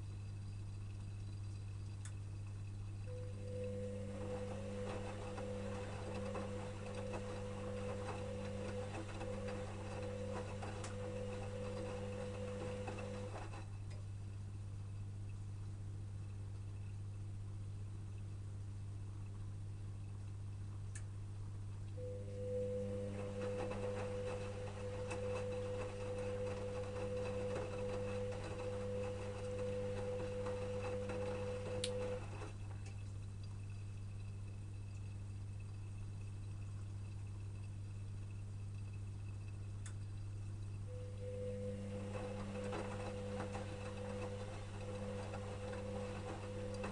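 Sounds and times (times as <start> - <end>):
faint ticks and clicks: 0.0 - 3.4, 4.1 - 22.0, 23.1 - 46.9
washing machine motor hum: 0.0 - 46.9.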